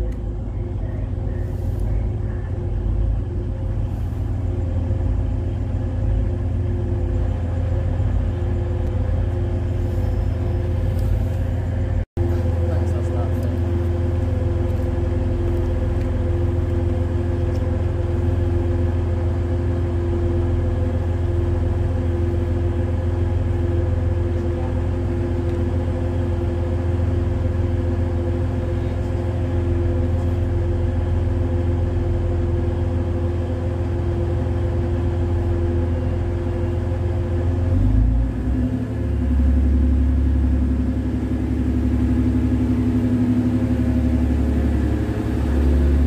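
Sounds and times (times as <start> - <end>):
constant hum: 0.0 - 46.0
diesel train idling: 0.0 - 46.0.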